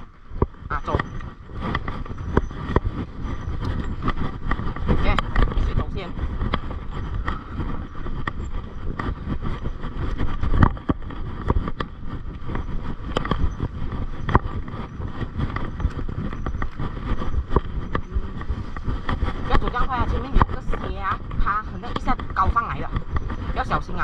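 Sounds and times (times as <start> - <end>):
bike rattling and knocking: 0.0 - 24.0
bike tyres rumbling on dirt trail: 0.0 - 24.0.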